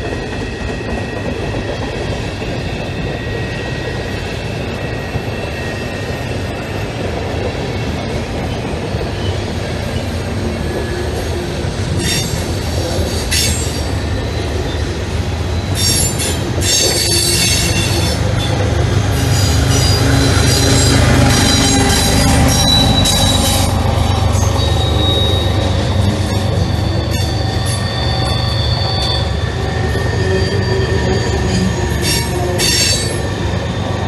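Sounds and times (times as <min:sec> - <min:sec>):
freight train wheels rumbling on rail: 0:00.0 - 0:34.0
high-pitched wheel squeal: 0:00.4 - 0:06.8, 0:10.0 - 0:34.0.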